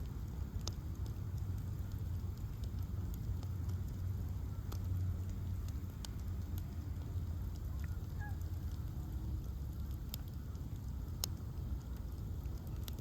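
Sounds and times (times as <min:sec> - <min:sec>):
bonfire rumbling: 0:00.0 - 0:13.0
fire crackling and popping: 0:00.0 - 0:13.0.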